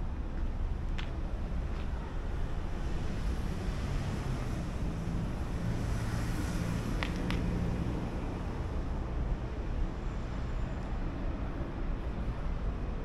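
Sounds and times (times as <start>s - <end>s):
street ambience: 0.0s - 13.0s.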